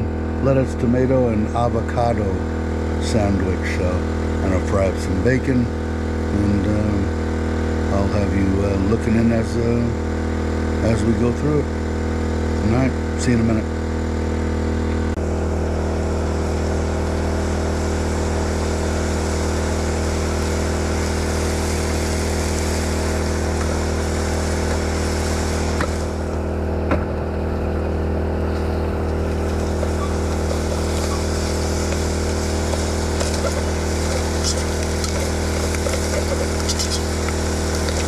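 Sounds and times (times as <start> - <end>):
generator engine humming: 0.0 - 38.0.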